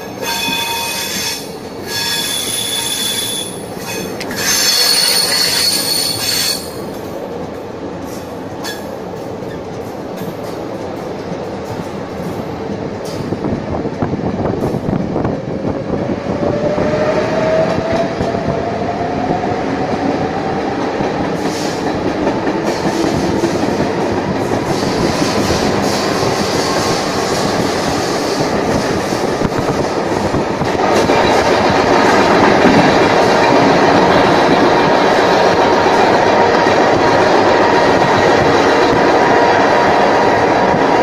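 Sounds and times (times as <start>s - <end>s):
train wheels clacking: 0.0s - 13.5s, 20.0s - 41.0s
train rumble: 0.0s - 41.0s.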